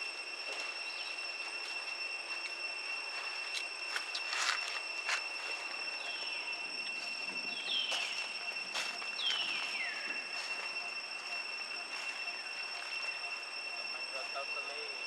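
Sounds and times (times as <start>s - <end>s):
high-pitched drone: 0.0s - 15.0s.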